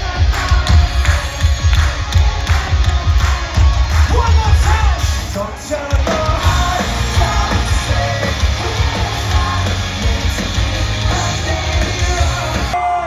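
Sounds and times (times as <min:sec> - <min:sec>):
pounding drums: 0:00.0 - 0:12.8
live rock band playing: 0:00.0 - 0:13.0
person singing: 0:00.0 - 0:13.0.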